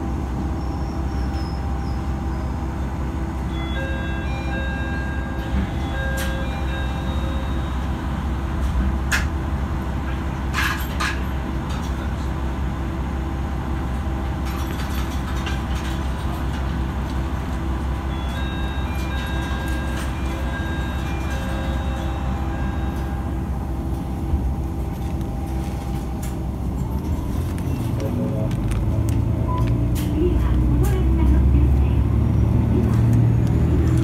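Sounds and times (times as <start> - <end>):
railcar low rumble: 0.0 - 34.0.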